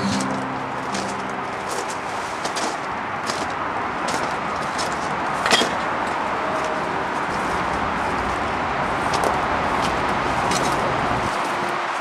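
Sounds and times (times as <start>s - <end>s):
highway traffic rushing: 0.0s - 12.0s.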